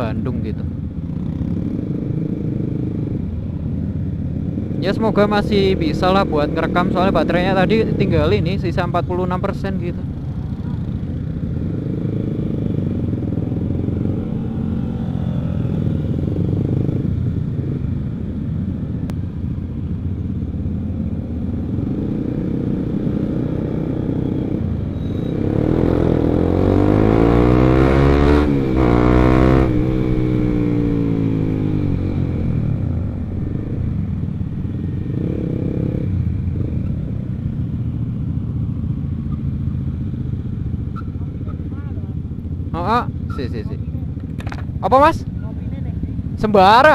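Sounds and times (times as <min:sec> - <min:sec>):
motorcycle engine running: 0:00.6 - 0:46.9.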